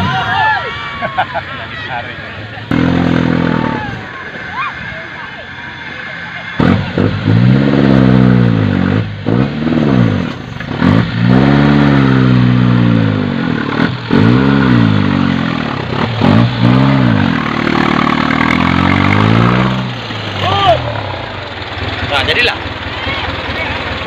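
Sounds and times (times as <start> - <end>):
tyres churning through mud: 0.0 - 24.0
jeep engine revving: 2.3 - 24.0.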